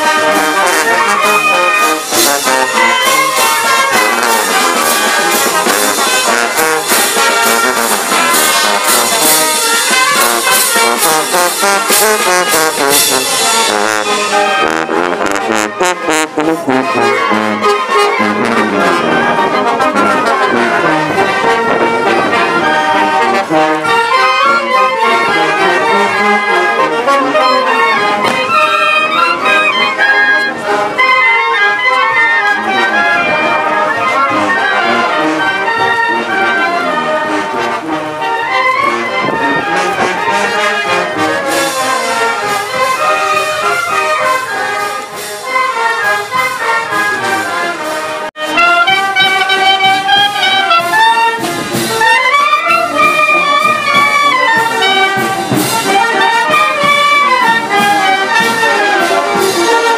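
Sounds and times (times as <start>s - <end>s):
marching brass band playing: 0.0s - 59.9s.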